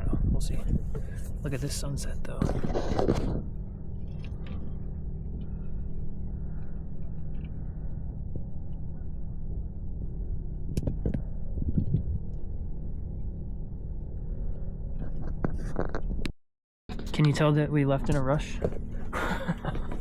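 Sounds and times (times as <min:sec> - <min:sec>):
low rumble: 0:00.0 - 0:16.3.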